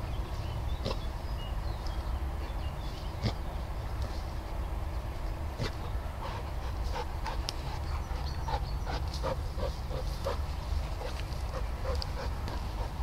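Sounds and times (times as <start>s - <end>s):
dog digging in soil: 2.6s - 13.0s.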